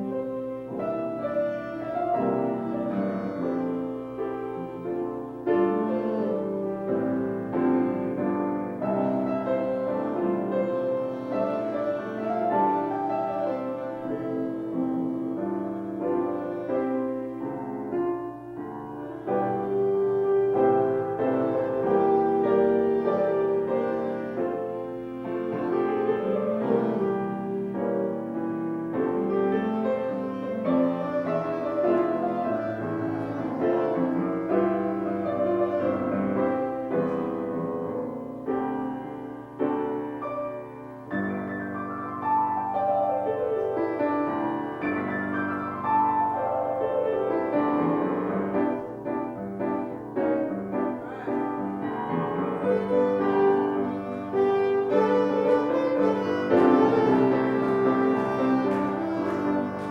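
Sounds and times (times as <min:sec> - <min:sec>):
piano music with quick runs: 0:00.0 - 0:59.9.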